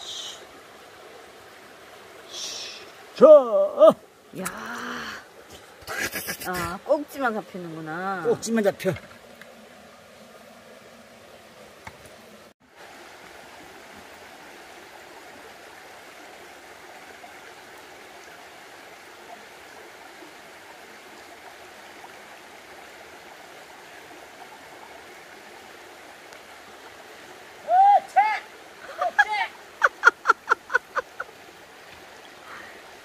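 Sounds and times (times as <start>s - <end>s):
stream running over stones: 0.0s - 33.0s.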